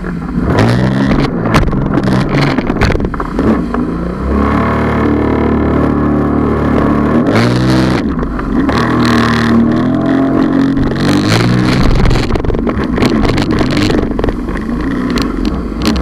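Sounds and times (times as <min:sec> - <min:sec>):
hull thumping on waves: 0:00.0 - 0:04.6, 0:06.6 - 0:16.0
water splashing: 0:00.0 - 0:16.0
watercraft engine running: 0:00.0 - 0:16.0.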